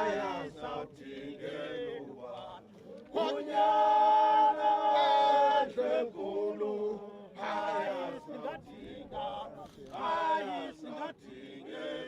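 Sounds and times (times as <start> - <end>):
voices singing a chant: 0.0 - 12.0.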